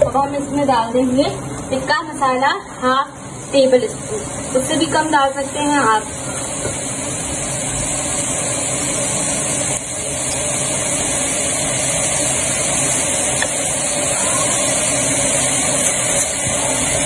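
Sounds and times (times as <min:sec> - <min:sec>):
chicken sizzling in a pot: 0:02.3 - 0:17.0.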